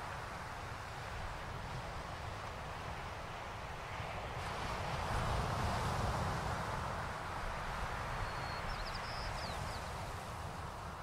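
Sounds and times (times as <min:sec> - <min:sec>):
sea waves washing on shore: 0:00.0 - 0:08.2, 0:09.2 - 0:11.0.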